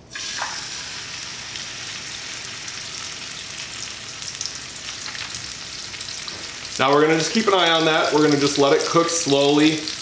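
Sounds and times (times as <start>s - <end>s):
chicken sizzling in frying pan: 0.0s - 10.0s.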